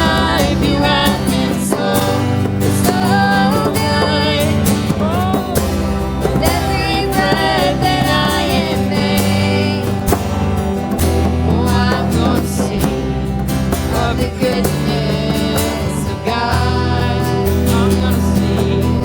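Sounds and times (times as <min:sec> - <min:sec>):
bass: 0:00.0 - 0:19.0
drum hits: 0:00.0 - 0:19.0
guitar: 0:00.0 - 0:19.0
person singing: 0:00.0 - 0:19.0.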